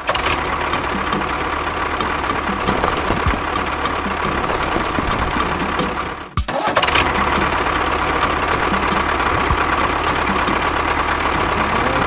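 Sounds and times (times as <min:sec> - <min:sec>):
engine knocking rumble: 0:00.0 - 0:12.0.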